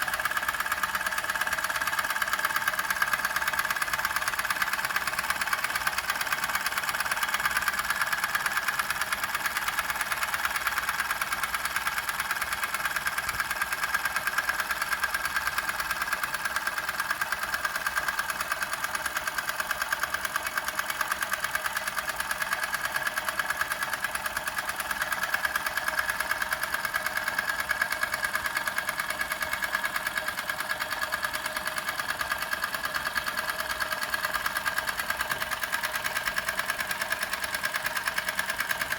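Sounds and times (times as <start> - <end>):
toy steam engine clattering: 0.0 - 38.9.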